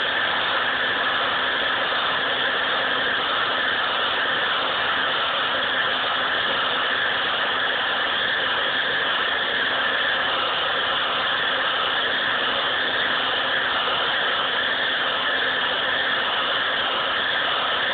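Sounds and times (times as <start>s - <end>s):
hair dryer blowing air: 0.0s - 17.9s.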